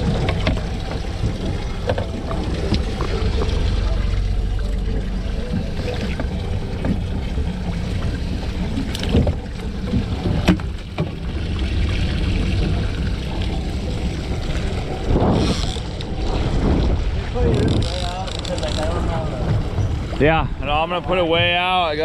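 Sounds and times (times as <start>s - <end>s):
wind rumbling on microphone: 0.0s - 21.8s
water sloshing: 0.0s - 22.0s.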